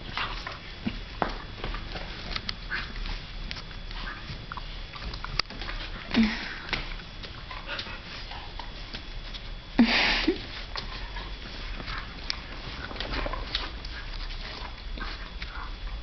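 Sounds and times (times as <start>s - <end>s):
dogs sniffing: 0.0s - 16.0s.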